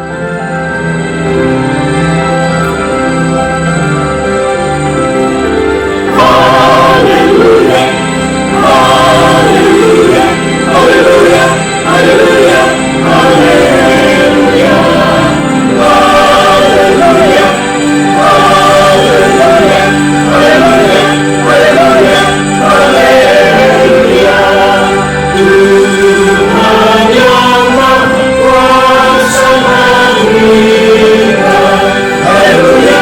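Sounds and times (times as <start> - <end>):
choir singing in harmony: 0.0 - 33.0.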